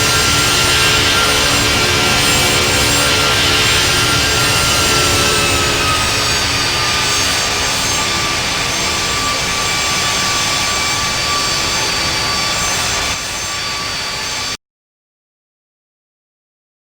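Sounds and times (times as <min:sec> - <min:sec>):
jet engines at takeoff power: 0:00.0 - 0:14.6.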